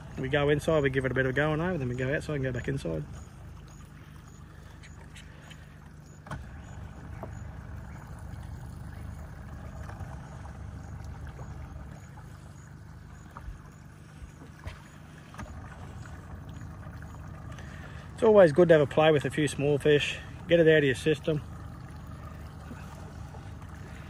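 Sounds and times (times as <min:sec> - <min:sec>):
boat motor running low: 0:00.0 - 0:24.0.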